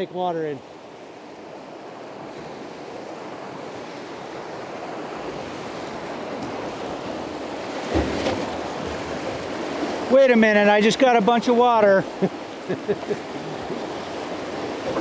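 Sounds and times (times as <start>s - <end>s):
river rapid rushing: 0.0s - 15.0s
wave splashing against boat: 0.7s - 15.0s.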